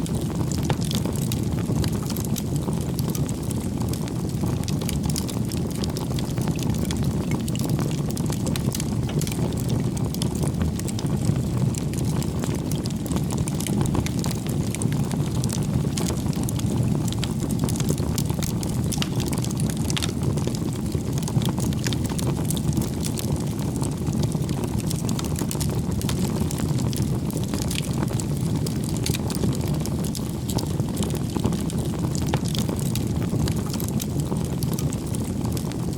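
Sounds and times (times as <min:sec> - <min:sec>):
burning wood crackling: 0:00.0 - 0:35.9
flames rushing: 0:00.0 - 0:35.9.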